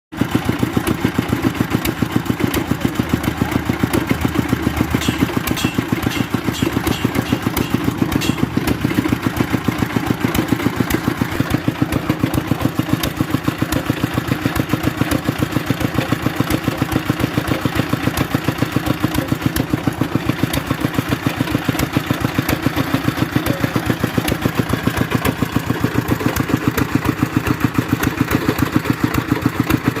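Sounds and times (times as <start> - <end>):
engine idling: 0.2 - 30.0.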